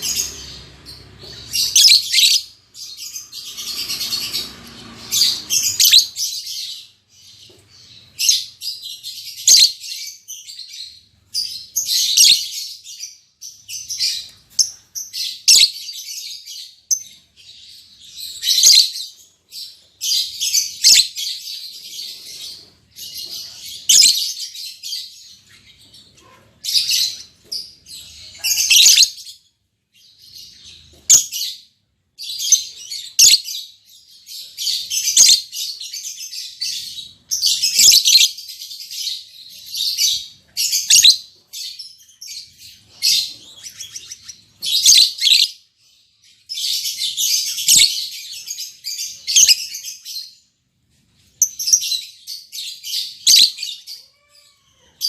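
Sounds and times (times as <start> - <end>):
lovebirds chirping and squeaking: 0.0 - 55.0.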